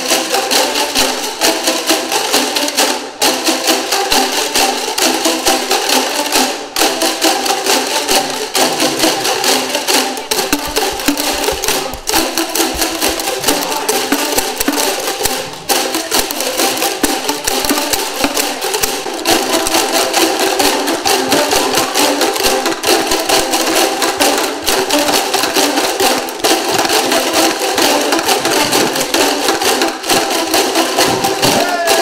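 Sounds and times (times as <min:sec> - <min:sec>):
boomwhacker tubes knocking: 0:00.0 - 0:32.0.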